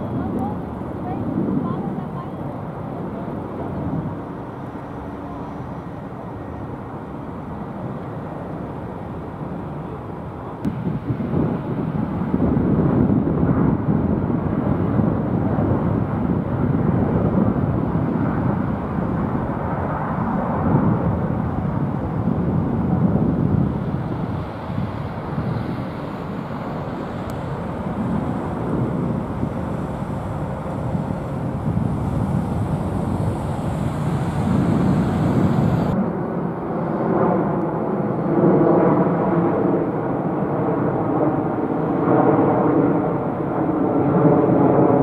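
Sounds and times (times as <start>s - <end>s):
deep jet engine rumble: 0.0s - 45.0s.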